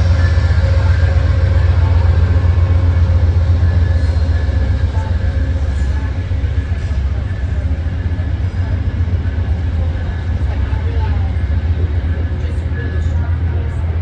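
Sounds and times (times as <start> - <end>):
train passing with low rumble: 0.0 - 14.0.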